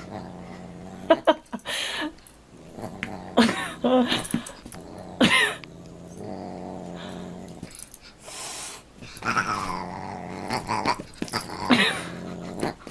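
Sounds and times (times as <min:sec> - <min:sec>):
dog growling: 0:00.0 - 0:01.6, 0:02.5 - 0:07.9, 0:09.1 - 0:12.9.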